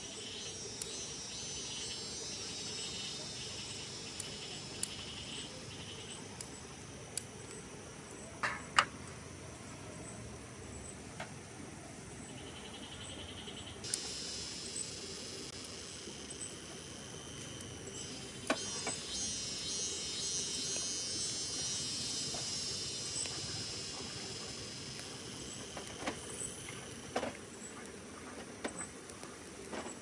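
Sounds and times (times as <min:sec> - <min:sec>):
insects chirping in trills: 0:00.0 - 0:30.0.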